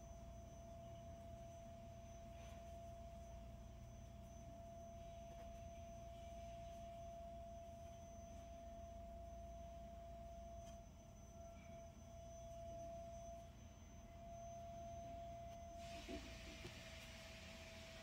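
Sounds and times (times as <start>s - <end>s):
steady thin whine: 0.0s - 18.0s.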